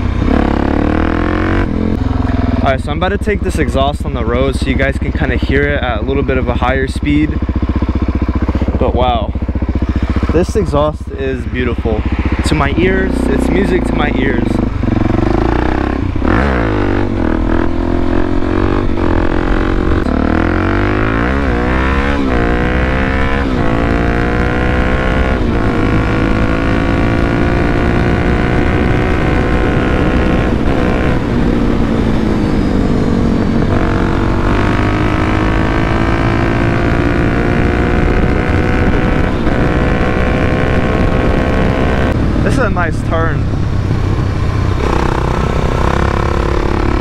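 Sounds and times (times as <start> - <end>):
motorcycle accelerating hard: 0.0 - 47.0.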